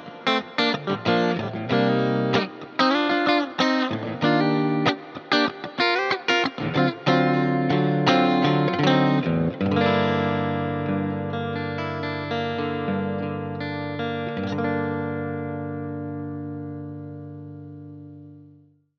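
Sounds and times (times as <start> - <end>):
electric guitar with delay and reverb: 0.0 - 18.7.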